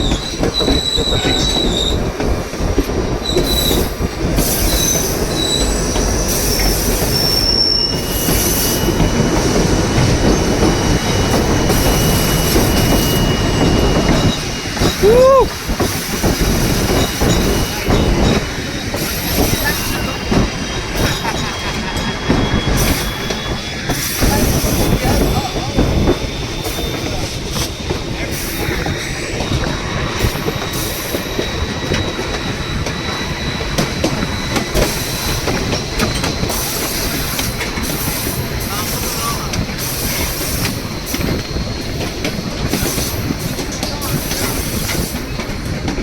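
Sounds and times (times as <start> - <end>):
high-pitched wheel squeals: 0.0 - 2.0, 3.2 - 15.5, 16.2 - 43.3
train wheels rumbling on rails: 0.0 - 46.0.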